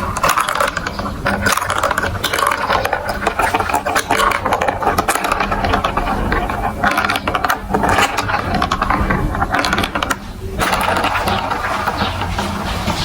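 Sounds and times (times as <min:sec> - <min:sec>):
marbles rattling through plastic track: 0:00.0 - 0:13.0.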